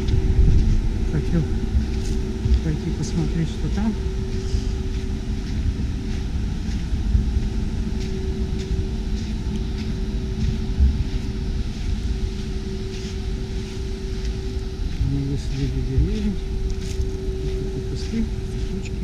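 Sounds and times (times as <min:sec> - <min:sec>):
footsteps brushing through vines: 0:00.0 - 0:19.0
jet engines rumbling: 0:00.0 - 0:19.0.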